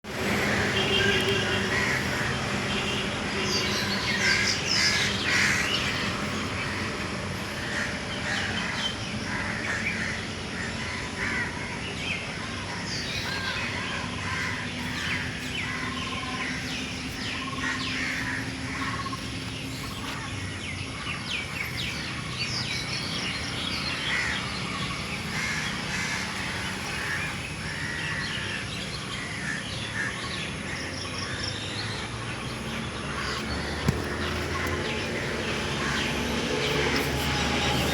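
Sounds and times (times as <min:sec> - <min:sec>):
birds chirping: 0:00.1 - 0:37.9
steady background hum: 0:00.1 - 0:37.9.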